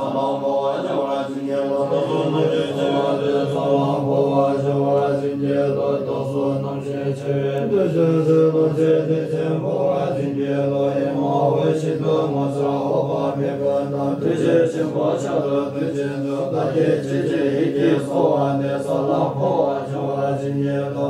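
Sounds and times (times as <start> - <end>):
men chanting: 0.0 - 21.0.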